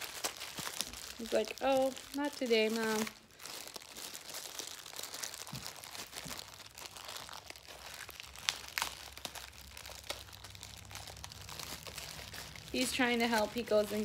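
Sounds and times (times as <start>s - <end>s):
plastic bag and tissue paper crinkling: 0.0s - 14.0s.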